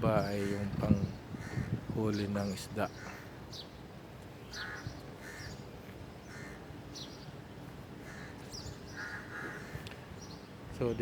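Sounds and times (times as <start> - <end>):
bird calls: 0.2 - 11.0.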